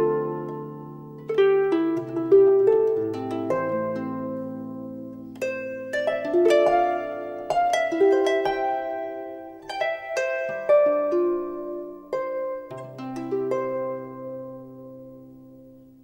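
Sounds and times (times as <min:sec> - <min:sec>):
plucked string music: 0:00.0 - 0:16.0.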